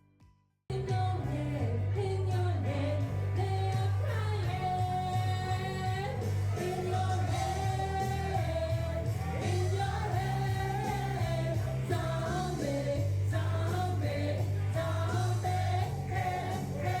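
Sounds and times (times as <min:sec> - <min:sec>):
person singing: 0:00.7 - 0:17.0
pop rock song with bass: 0:00.7 - 0:17.0.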